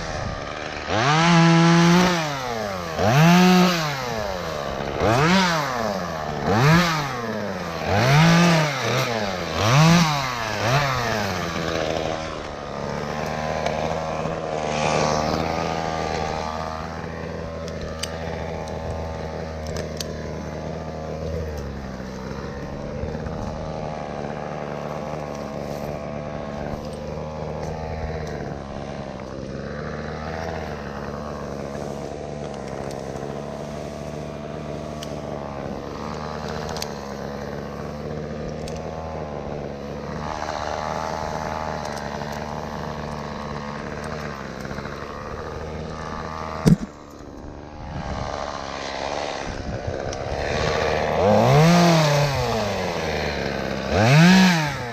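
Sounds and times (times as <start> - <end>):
chainsaw revving: 0.0 - 54.9.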